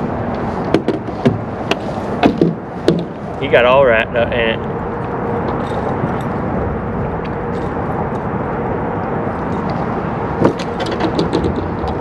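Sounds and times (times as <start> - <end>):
low outdoor noise: 0.0 - 12.0.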